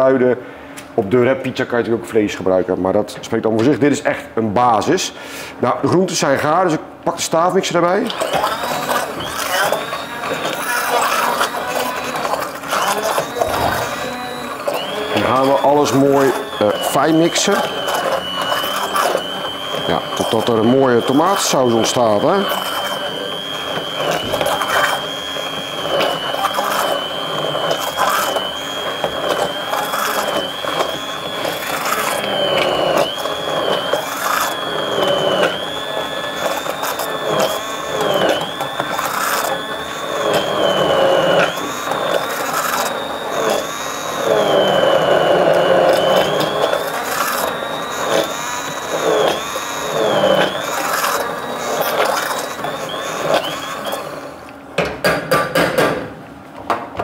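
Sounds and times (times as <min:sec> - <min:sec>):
immersion blender whining: 0:04.9 - 0:54.8
blender knocking and rattling: 0:08.0 - 0:57.0.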